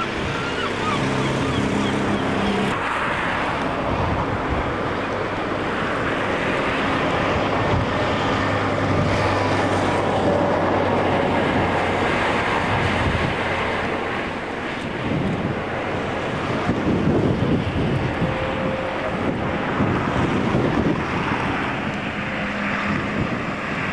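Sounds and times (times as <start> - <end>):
sea wash: 0.0 - 23.9
wind on microphone: 0.0 - 23.9.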